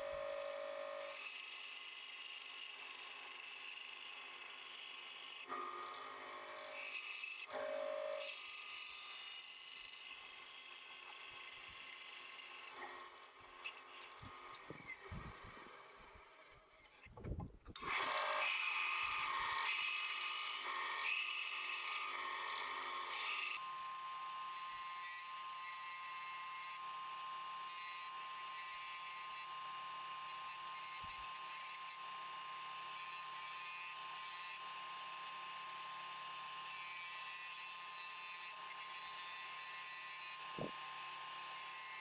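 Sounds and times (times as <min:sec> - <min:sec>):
sander running: 0:00.0 - 0:16.9, 0:17.8 - 0:42.0
band saw cutting wood: 0:00.0 - 0:17.1, 0:17.7 - 0:42.0.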